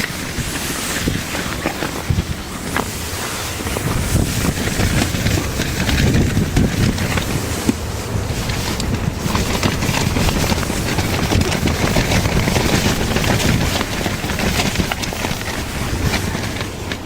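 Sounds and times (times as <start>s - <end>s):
rapid crackling taps: 0.0s - 17.0s
wind buffeting microphone: 0.0s - 17.0s.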